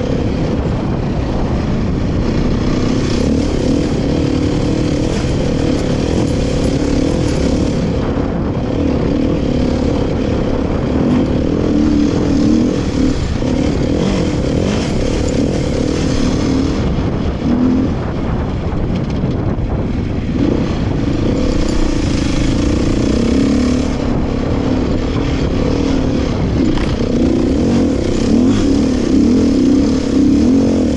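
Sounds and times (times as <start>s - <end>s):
dirt bike engine revving: 0.0s - 19.0s, 20.2s - 30.9s.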